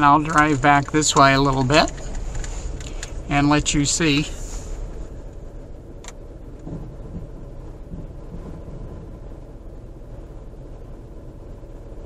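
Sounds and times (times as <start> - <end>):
car cabin rumble on gravel: 0.0 - 10.9.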